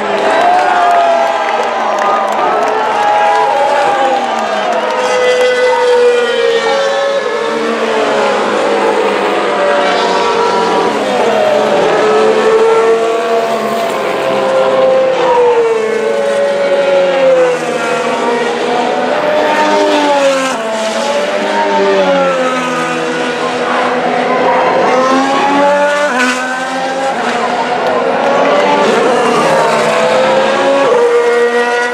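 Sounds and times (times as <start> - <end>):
racing car engines screaming past: 0.0 - 31.9.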